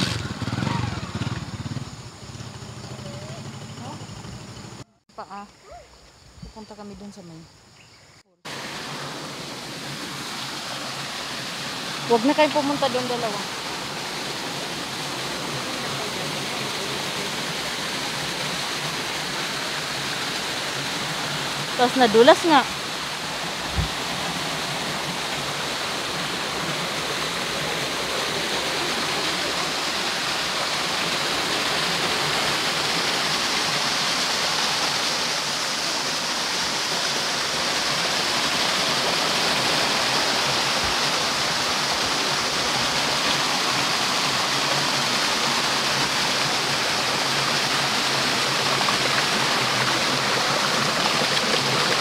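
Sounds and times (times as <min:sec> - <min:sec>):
creek water rushing: 0:00.0 - 0:02.1, 0:08.4 - 0:52.0.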